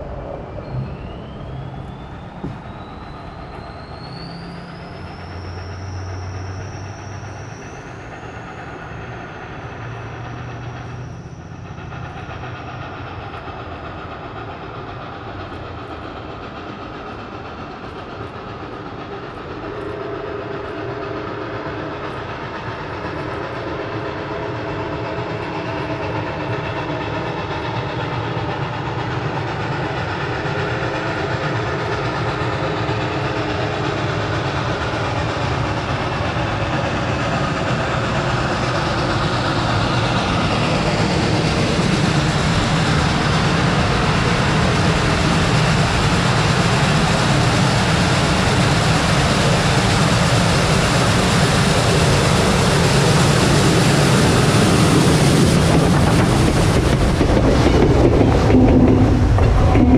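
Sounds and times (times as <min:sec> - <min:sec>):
steam train rumble and rattle: 0:00.0 - 0:59.9.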